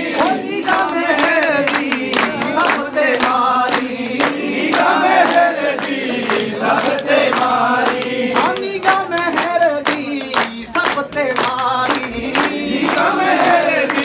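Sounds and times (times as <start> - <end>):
handclaps: 0.0 - 14.0
men singing together: 0.0 - 14.0.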